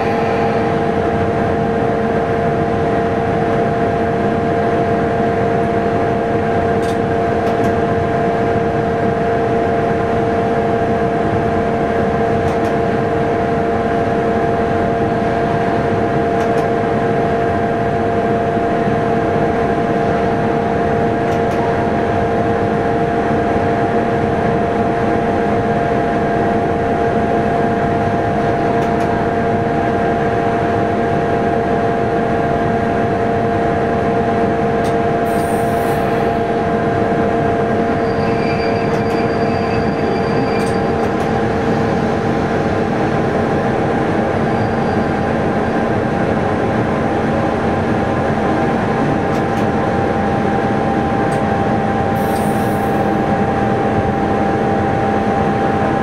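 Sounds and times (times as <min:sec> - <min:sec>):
train running gear rumbling: 0:00.0 - 0:56.0.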